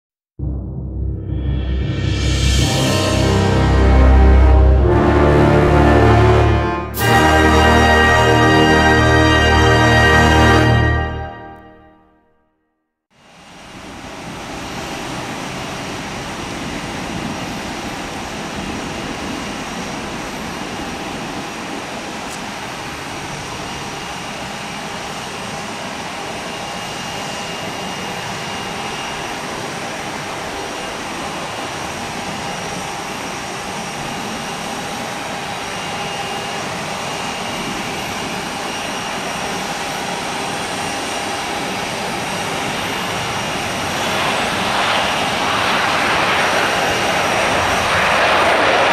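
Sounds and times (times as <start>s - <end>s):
jet engines rushing and whining: 1.0s - 11.7s, 13.2s - 48.9s.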